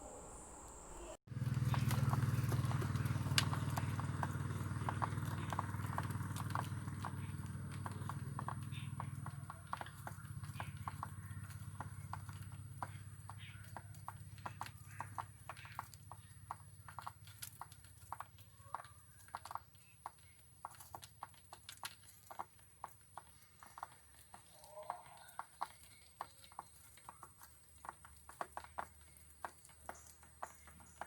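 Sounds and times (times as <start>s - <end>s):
bird calls: 1.0s - 31.0s
birds pecking in cage: 1.3s - 31.0s.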